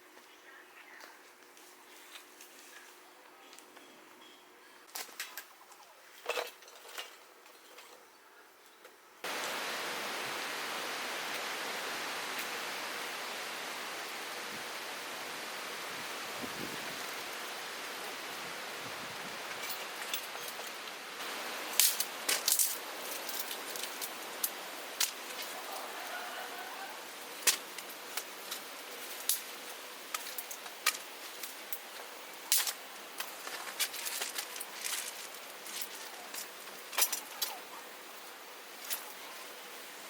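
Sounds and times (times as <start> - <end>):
steady background hiss: 0.0 - 40.0.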